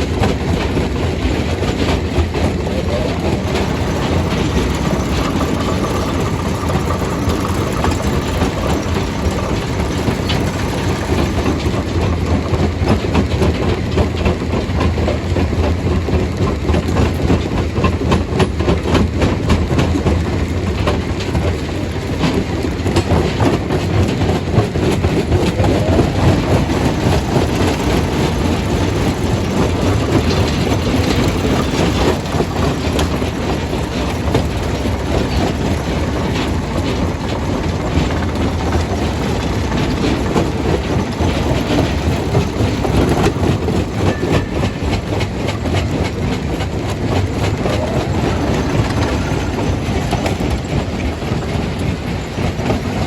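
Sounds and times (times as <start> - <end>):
rock crusher rumbling: 0.0 - 53.0.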